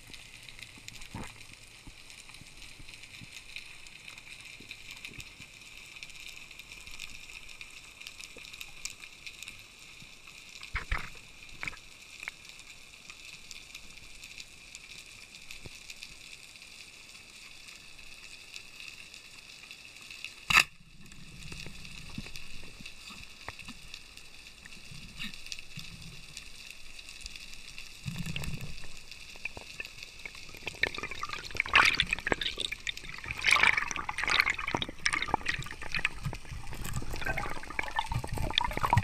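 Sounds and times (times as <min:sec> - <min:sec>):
faint water hiss: 0:00.0 - 0:39.0.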